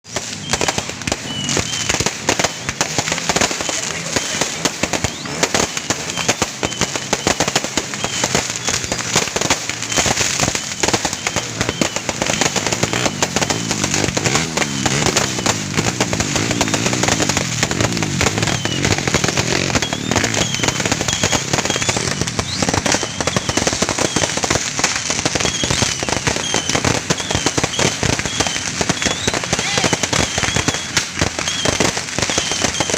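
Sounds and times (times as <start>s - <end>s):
fireworks and firecrackers popping: 0.0s - 32.9s.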